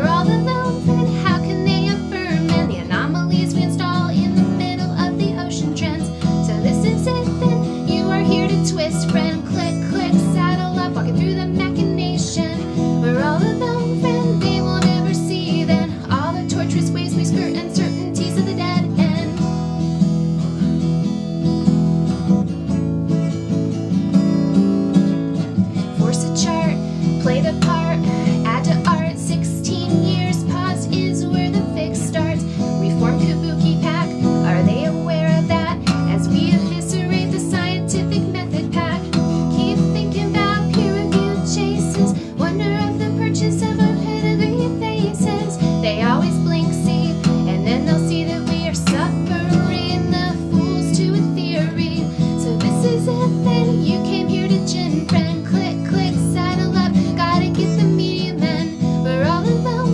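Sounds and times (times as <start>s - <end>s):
woman singing: 0.0s - 19.7s, 25.6s - 59.9s
acoustic guitar strumming: 0.0s - 59.9s.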